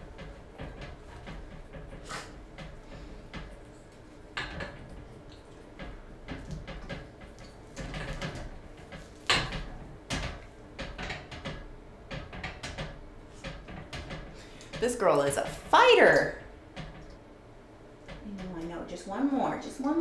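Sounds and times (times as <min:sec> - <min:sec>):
knocks and clatter: 0:00.0 - 0:17.2.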